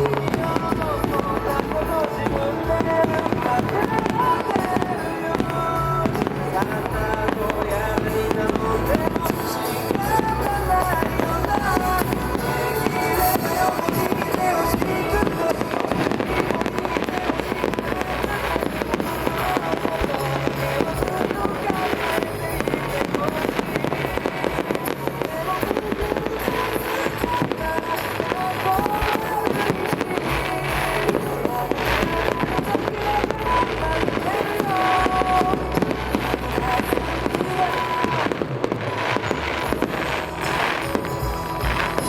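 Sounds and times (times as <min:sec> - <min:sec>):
fireworks bursting and crackling: 0:00.0 - 0:42.0
pop music over loudspeakers: 0:00.0 - 0:42.0.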